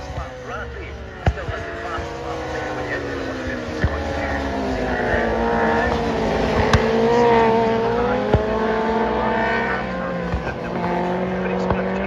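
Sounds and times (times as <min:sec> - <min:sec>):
racing motorcycle engines passing: 0:00.0 - 0:12.0.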